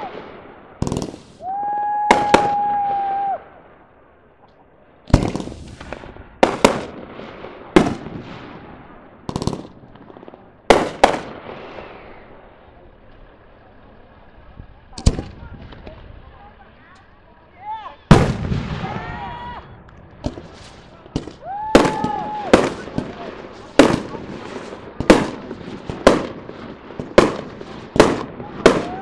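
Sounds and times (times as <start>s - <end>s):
fireworks bangs with crackling: 0.0s - 3.8s, 5.1s - 16.8s, 18.1s - 29.0s.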